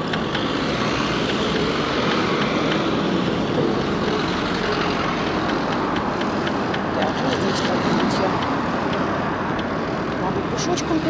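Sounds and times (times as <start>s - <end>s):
tyre and road rumble: 0.0s - 11.0s.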